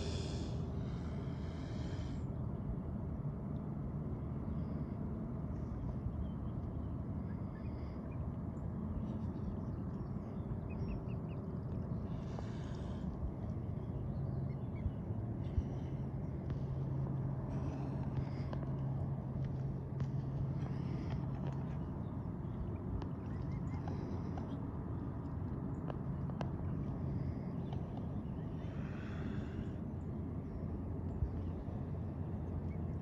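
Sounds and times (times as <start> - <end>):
low hum: 0.0 - 33.0
low outdoor rumble: 0.0 - 33.0.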